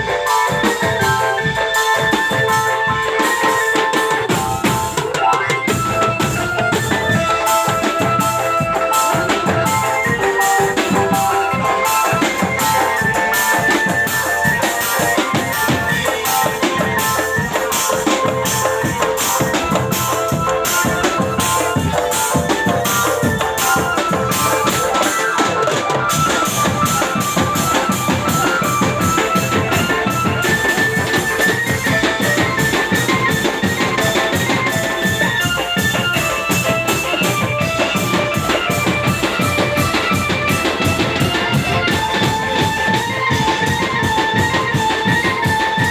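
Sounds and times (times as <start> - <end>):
drum band playing marching beat: 0.0 - 45.9.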